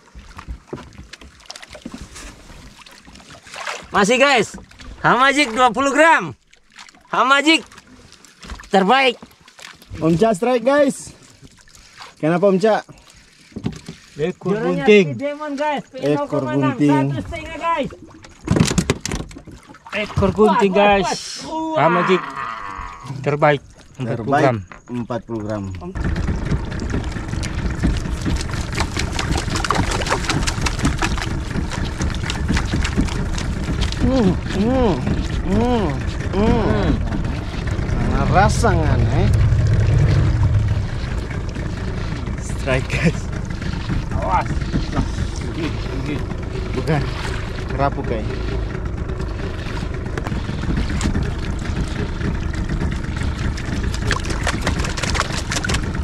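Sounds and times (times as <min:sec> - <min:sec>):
water knocking against boat: 0:00.0 - 0:10.4, 0:13.4 - 0:14.5, 0:16.0 - 0:21.1, 0:25.4 - 0:56.0.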